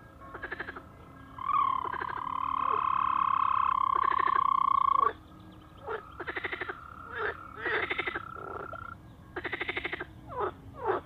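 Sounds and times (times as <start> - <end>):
toad trilling: 0.3 - 5.2, 5.8 - 11.0.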